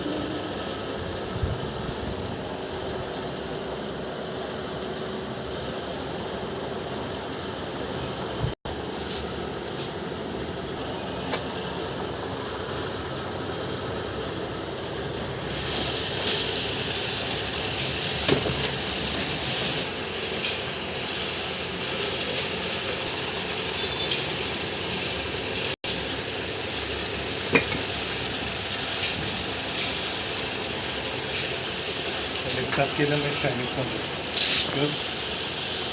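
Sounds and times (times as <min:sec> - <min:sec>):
mechanical running noise: 0:00.0 - 0:35.9.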